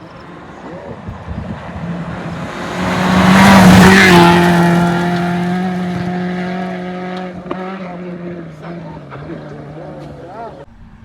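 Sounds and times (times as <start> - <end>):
rally car passing at speed: 0.2 - 10.0.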